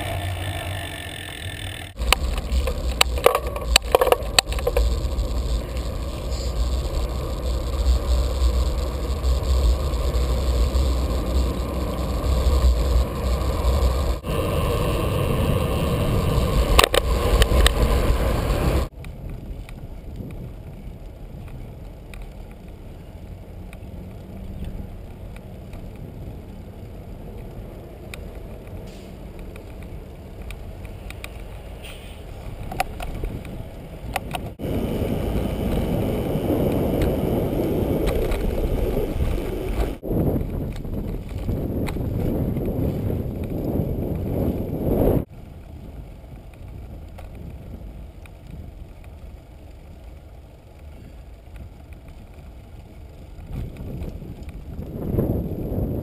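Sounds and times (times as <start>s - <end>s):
steady hiss of bicycle ride: 0.0s - 56.0s
wind buffeting: 0.0s - 56.0s.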